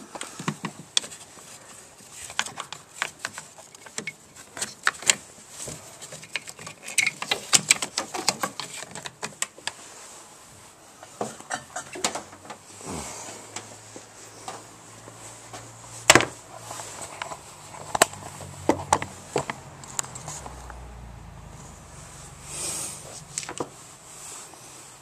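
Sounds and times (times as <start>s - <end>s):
soft rustle: 0.0s - 25.0s.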